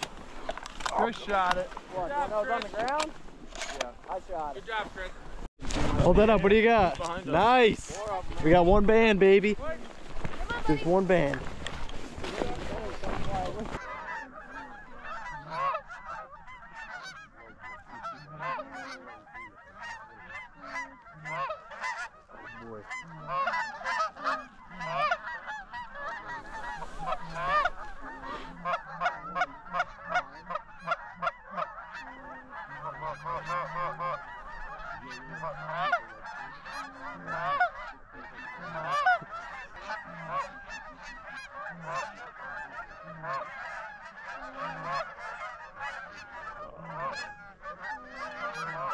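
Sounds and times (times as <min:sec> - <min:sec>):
geese honking: 0:00.0 - 0:05.5, 0:06.1 - 0:48.9.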